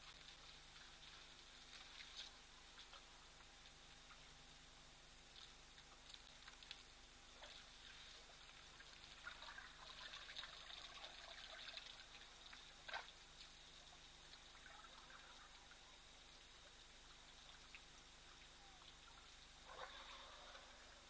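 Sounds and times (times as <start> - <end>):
water trickling and splashing: 0.0 - 4.3, 5.3 - 21.0.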